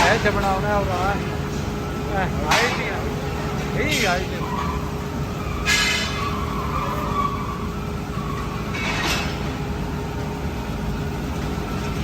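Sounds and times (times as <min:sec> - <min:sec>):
factory machinery rumble: 0:00.0 - 0:12.0
faint constant hum: 0:00.0 - 0:12.0.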